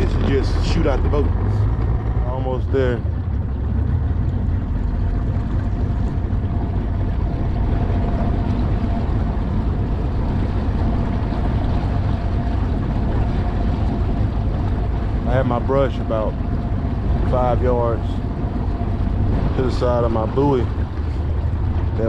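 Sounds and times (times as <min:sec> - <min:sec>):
boat motor rumbling: 0:00.0 - 0:22.0
water rushing: 0:00.0 - 0:22.0
wind: 0:00.0 - 0:22.0.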